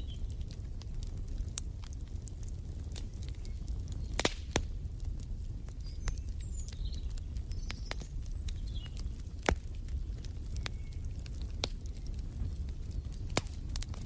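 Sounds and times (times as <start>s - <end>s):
low rumble of flames: 0.0s - 14.0s
wood fire crackling: 0.0s - 14.0s.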